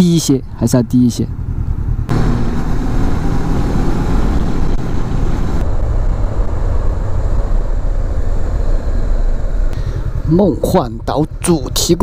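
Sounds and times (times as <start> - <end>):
wind and road noise: 0.0 - 12.0
motorcycle engine running: 0.4 - 12.0.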